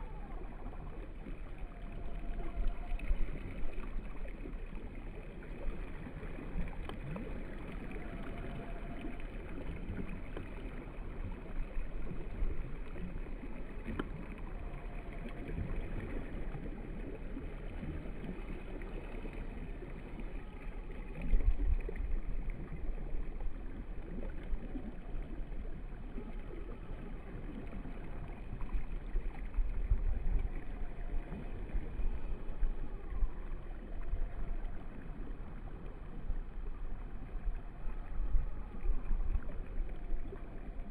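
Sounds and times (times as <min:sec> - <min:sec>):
small waves lapping: 0:00.0 - 0:40.9
wind rumbling on microphone: 0:00.0 - 0:40.9.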